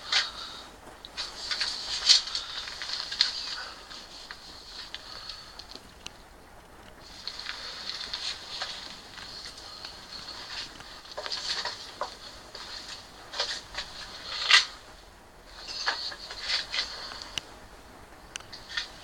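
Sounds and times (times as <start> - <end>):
rustling and scraping handling noise: 0.0 - 17.6, 18.4 - 19.0.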